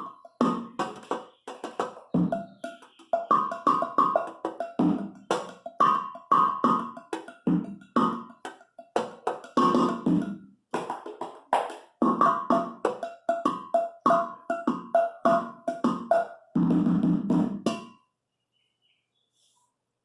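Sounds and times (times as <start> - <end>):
pots and pans struck by hand: 0.0 - 18.0.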